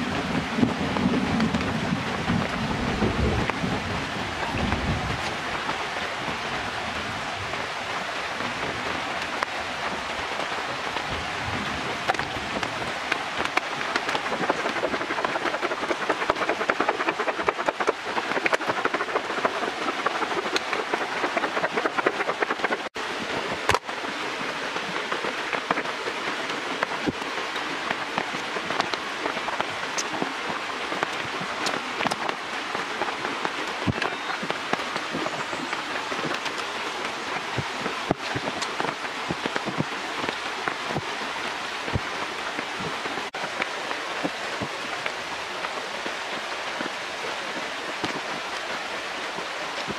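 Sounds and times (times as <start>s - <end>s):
steady rain-like hiss: 0.0s - 49.9s.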